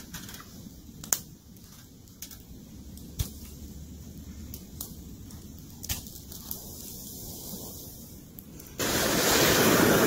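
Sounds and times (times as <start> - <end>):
campfire clicks: 0.0 - 10.0.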